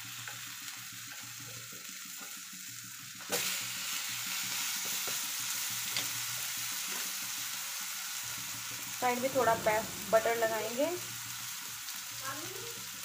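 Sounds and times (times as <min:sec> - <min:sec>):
bread sizzling in a frying pan: 0:00.0 - 0:13.0.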